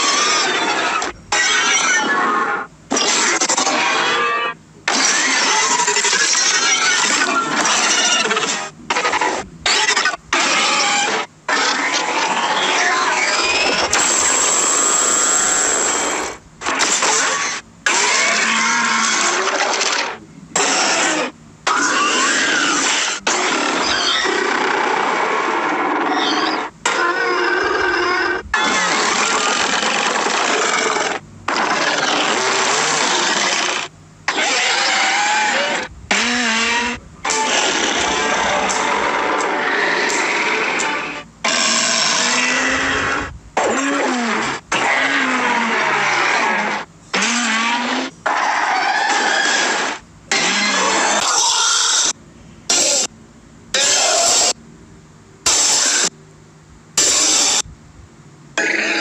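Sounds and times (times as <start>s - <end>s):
harsh rasping creature roars: 0.0s - 52.1s.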